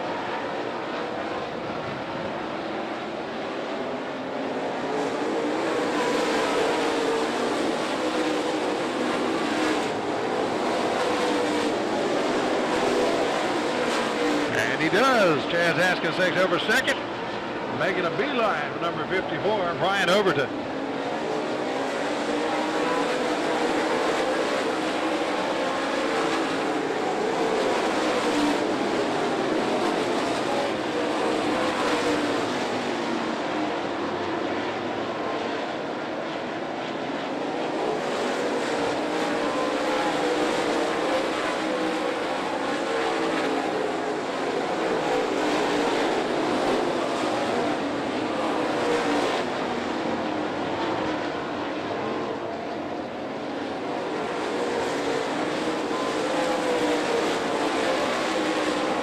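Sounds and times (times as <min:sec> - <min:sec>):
race car engines racing: 0:00.0 - 0:59.0.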